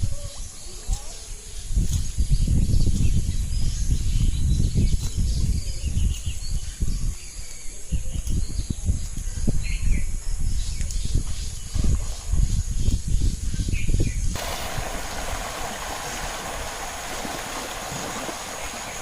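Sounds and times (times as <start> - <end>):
birds chirping faintly: 0.0 - 19.0
wind buffeting microphone: 0.0 - 19.0.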